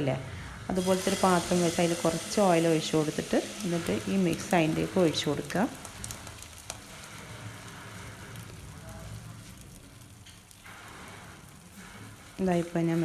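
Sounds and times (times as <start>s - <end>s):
egg batter sizzling in oil: 0.4s - 13.0s
light crackling: 0.8s - 13.0s.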